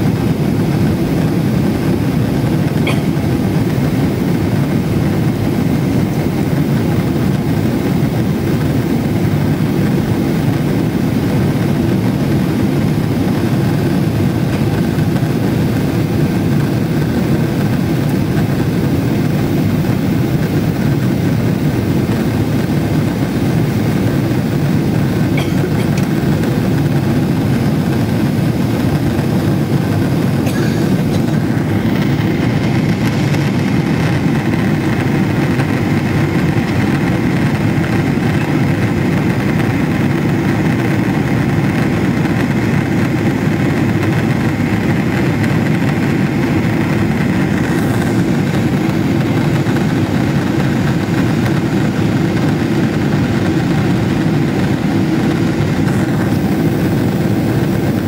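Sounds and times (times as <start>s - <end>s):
jet engine rumble in cabin: 0.0s - 58.0s.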